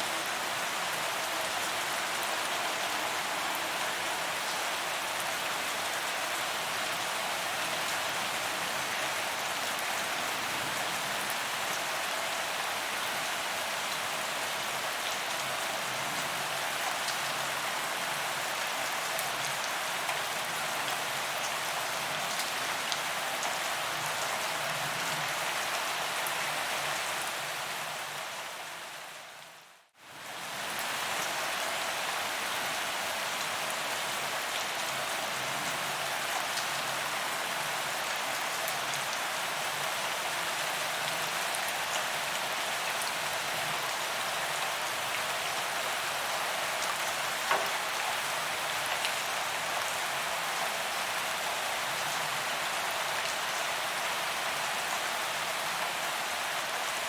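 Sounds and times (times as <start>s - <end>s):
rain on pavement: 0.0s - 57.0s.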